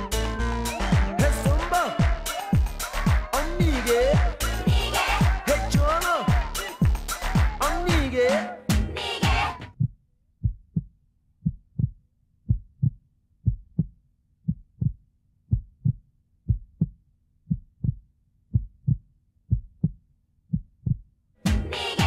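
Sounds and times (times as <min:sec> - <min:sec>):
heartbeat thumps: 0:00.9 - 0:08.1, 0:09.7 - 0:21.7.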